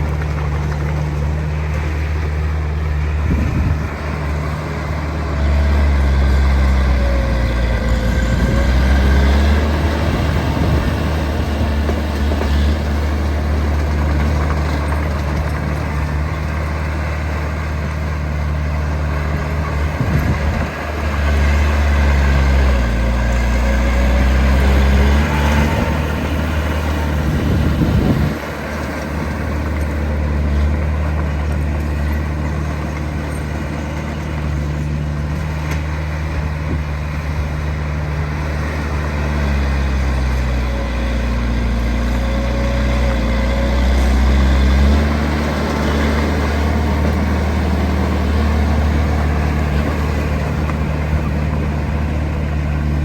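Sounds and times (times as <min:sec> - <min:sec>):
heavy machinery diesel engine: 0:00.0 - 0:53.0.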